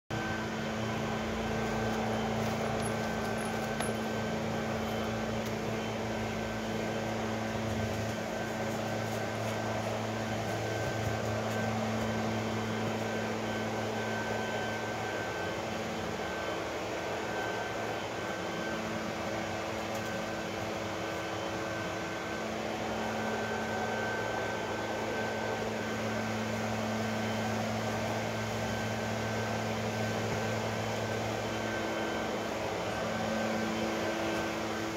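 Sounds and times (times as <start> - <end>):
motor or fan droning: 0.1 - 34.9.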